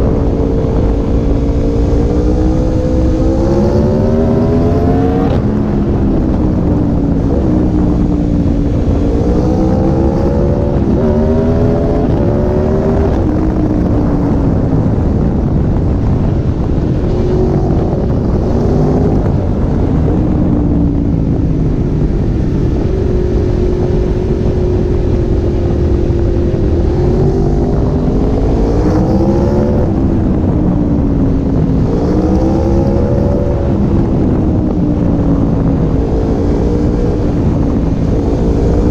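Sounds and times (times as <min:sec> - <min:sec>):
motorcycle engine revving: 0:00.0 - 0:38.9
wind rushing on microphone: 0:00.0 - 0:38.9.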